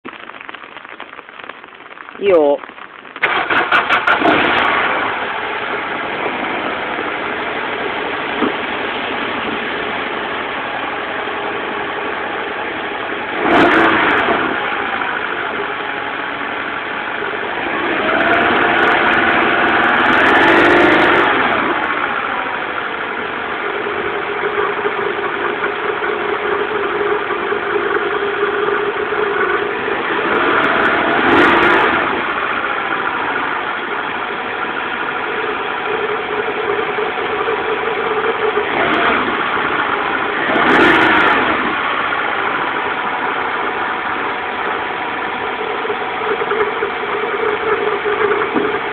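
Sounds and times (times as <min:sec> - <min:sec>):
car engine idling and revving: 0:00.0 - 0:48.9
engine rubbing noise: 0:00.0 - 0:48.9.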